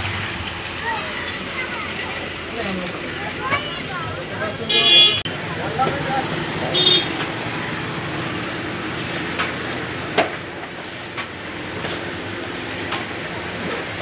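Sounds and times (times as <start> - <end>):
crowded shop hubbub: 0.0 - 14.0.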